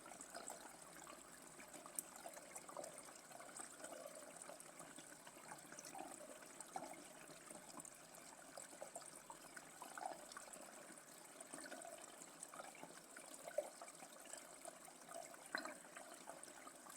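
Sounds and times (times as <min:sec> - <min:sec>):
water trickling and gurgling: 0:00.0 - 0:16.9.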